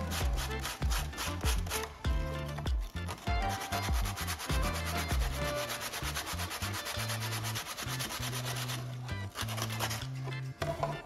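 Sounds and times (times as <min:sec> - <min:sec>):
sandpaper scratching on plastic: 0:00.0 - 0:10.4.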